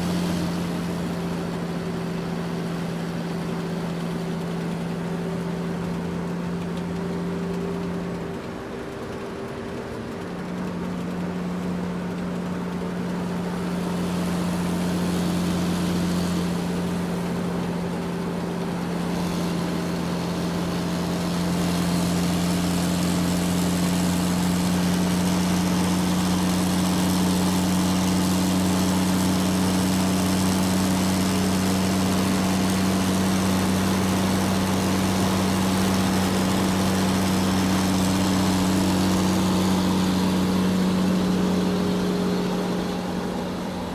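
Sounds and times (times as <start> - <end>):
truck engine droning: 0.0 - 43.9.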